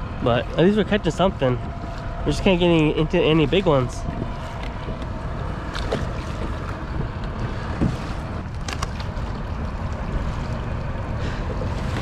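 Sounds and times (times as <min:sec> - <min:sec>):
water moving around kayak: 0:00.0 - 0:12.0
wind buffeting microphone: 0:00.0 - 0:12.0.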